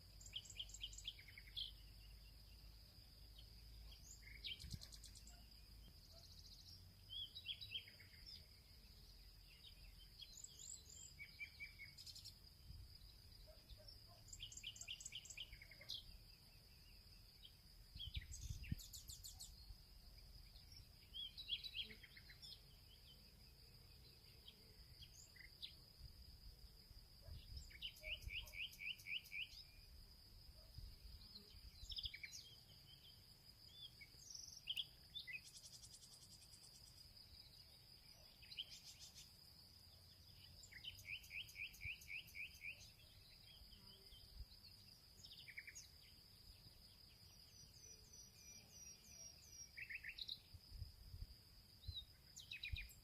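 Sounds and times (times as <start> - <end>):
songbird chirps and calls: 0.0 - 53.0.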